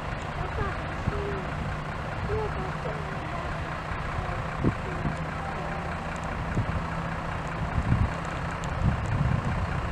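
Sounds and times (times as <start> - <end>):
train rumbling: 0.0 - 9.9.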